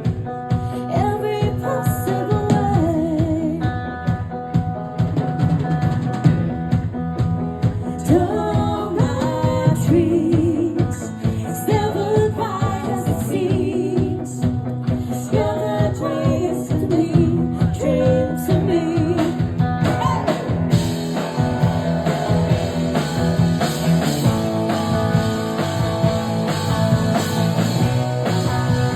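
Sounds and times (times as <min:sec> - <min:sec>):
rock band music with singing: 0:00.0 - 0:28.9.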